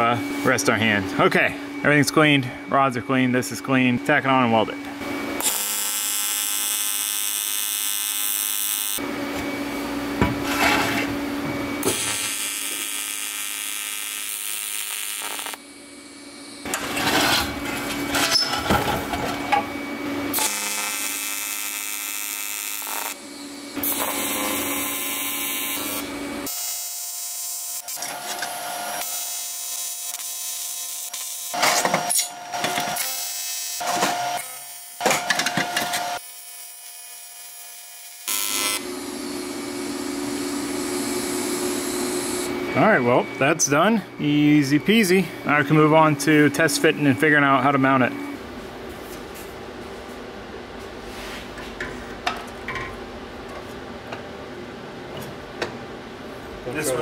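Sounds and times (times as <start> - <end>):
welding arc buzzing hum: 0.0 - 51.0.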